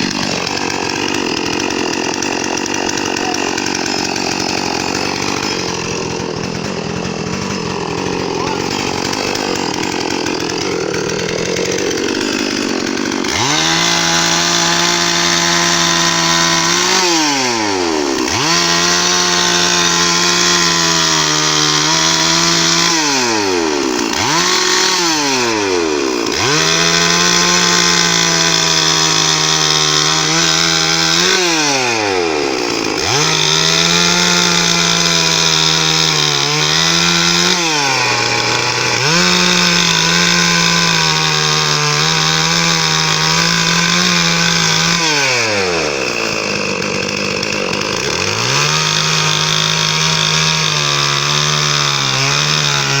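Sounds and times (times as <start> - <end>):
electric power drill whining: 0.0 - 53.0.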